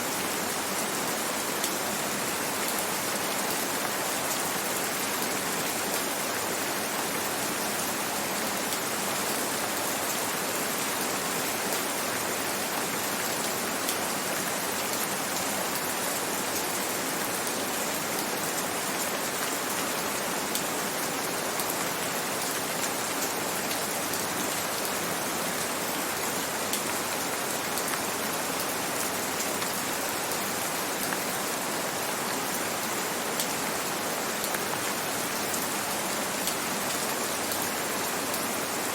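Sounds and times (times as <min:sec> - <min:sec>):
gentle steady rain: 0:00.0 - 0:38.9.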